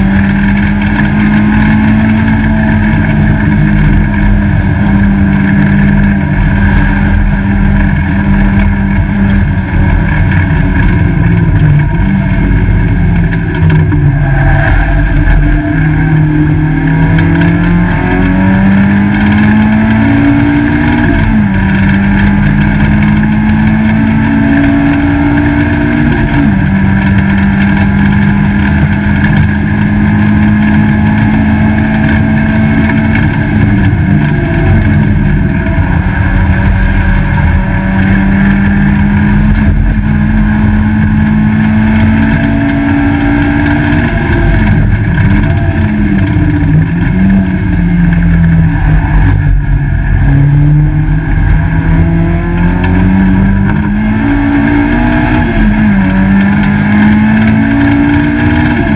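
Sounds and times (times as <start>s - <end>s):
race car engine running hard: 0.0s - 58.9s
road and wind noise: 0.0s - 58.9s.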